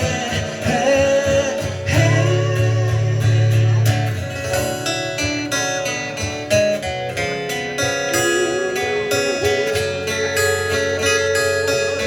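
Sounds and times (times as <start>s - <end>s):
guitar strumming and picking: 0.0s - 12.0s.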